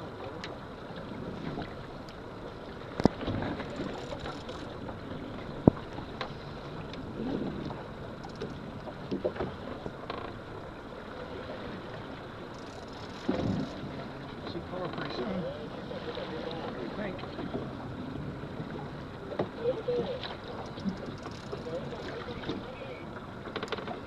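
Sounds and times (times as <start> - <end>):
water noise: 0.0 - 24.0
wind: 0.0 - 24.0.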